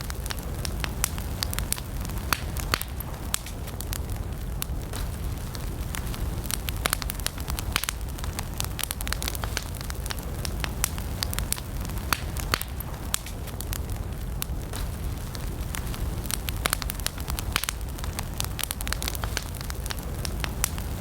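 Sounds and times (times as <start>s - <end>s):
campfire crackling and popping: 0.0s - 21.0s
flames rumbling: 0.0s - 21.0s.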